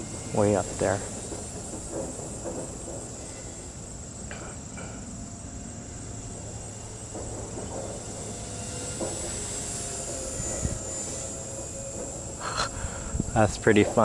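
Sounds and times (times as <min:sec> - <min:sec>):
rc helicopter high-pitched whine: 0:00.0 - 0:14.0.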